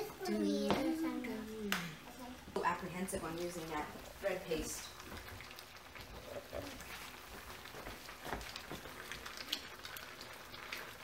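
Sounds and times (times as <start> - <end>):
curry sizzling and bubbling: 0.0 - 11.0.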